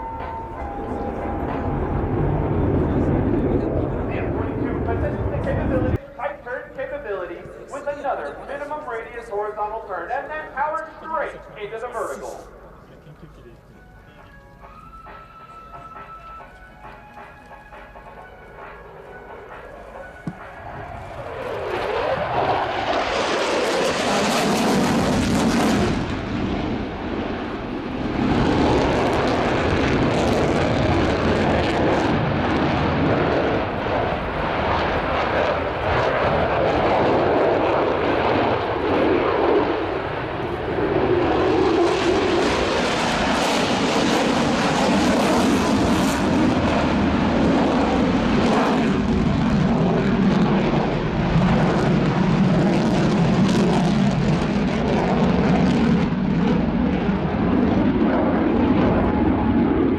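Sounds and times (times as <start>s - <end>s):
loud jet engine noise: 0.0s - 13.1s, 15.0s - 59.9s.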